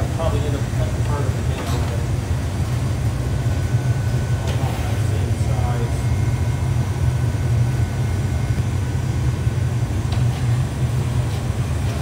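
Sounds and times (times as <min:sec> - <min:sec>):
furnace burners rumbling: 0:00.0 - 0:12.0.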